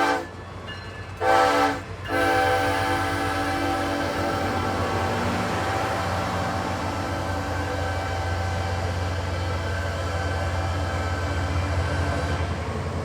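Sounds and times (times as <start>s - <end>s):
train locomotive drone: 0.0s - 13.0s.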